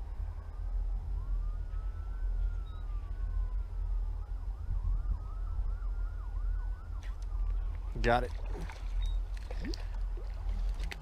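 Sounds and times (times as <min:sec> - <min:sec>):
emergency vehicle siren: 0:00.0 - 0:09.2
low rumble: 0:00.0 - 0:11.0.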